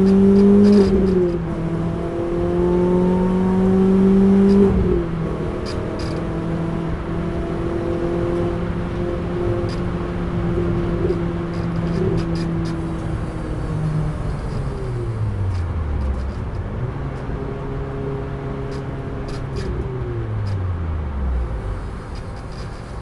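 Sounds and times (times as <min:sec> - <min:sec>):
car engine at speed: 0:00.0 - 0:23.0.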